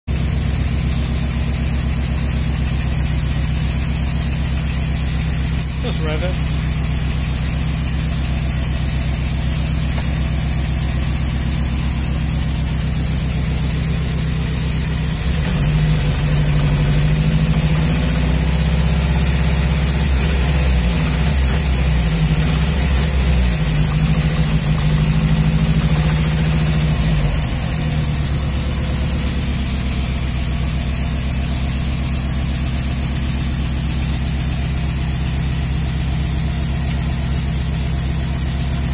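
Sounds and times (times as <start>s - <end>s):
car engine misfiring and revving: 0.1s - 38.9s.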